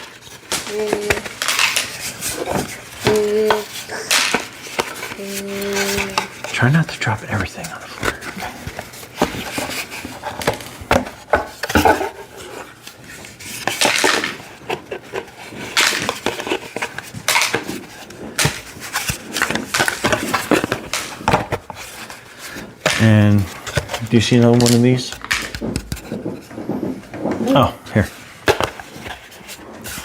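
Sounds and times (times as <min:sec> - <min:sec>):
toy parts and bolts clattering: 0:00.0 - 0:10.6, 0:13.4 - 0:30.0.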